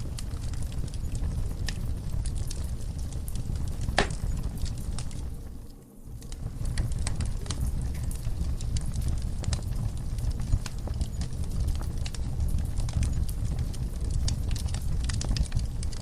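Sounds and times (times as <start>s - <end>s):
low steady rumble: 0.0s - 16.0s
sharp pops of fire: 0.0s - 16.0s
wood fire crackling: 0.0s - 16.0s.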